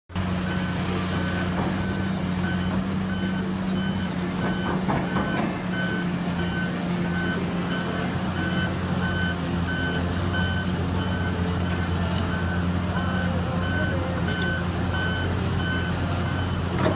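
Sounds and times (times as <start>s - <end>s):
diesel engine running: 0.1s - 16.9s
backup alarm beeping: 0.4s - 16.9s.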